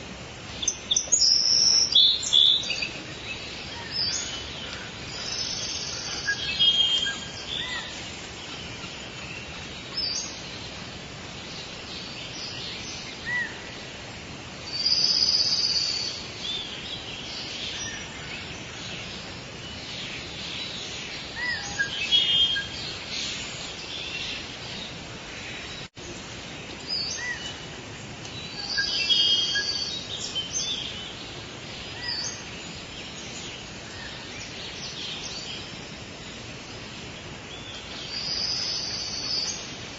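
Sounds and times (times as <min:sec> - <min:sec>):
background hiss: 0:00.0 - 0:39.9
forest birds calling: 0:00.0 - 0:39.9.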